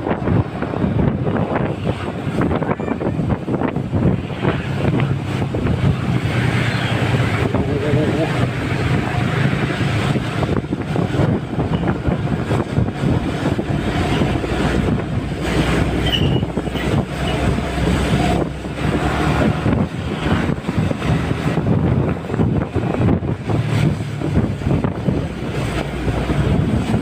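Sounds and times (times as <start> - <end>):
engine and tyre rumble: 0.0 - 27.0
wind buffeting microphone: 0.0 - 27.0.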